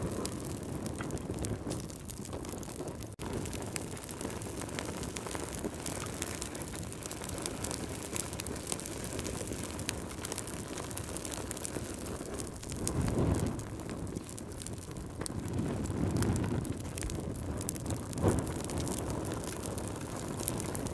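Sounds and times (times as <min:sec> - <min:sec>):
low rush of flames: 0:00.0 - 0:20.9
wood fire crackling and popping: 0:00.0 - 0:20.9.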